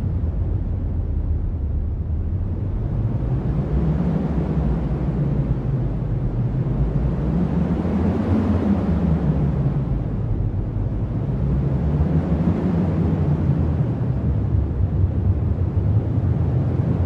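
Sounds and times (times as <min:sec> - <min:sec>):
strong wind rumbling: 0:00.0 - 0:17.0.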